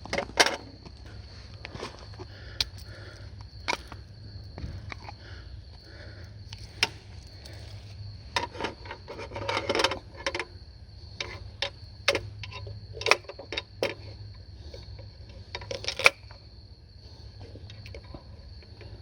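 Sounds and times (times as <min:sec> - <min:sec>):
cooking gear and firewood clatter: 0:00.0 - 0:19.0.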